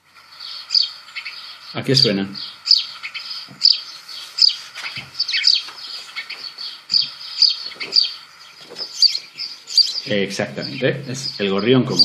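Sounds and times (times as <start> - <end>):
sparrow chirping: 0.2 - 12.0.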